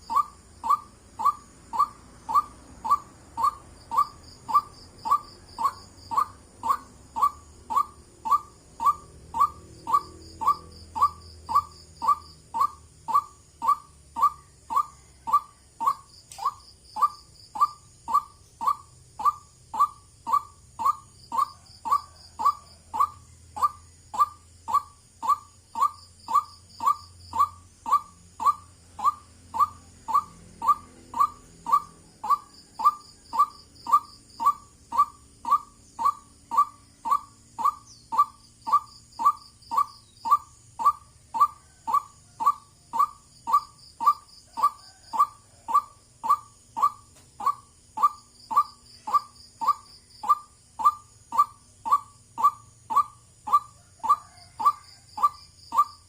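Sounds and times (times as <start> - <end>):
faint high bird trill: 0.0 - 56.0.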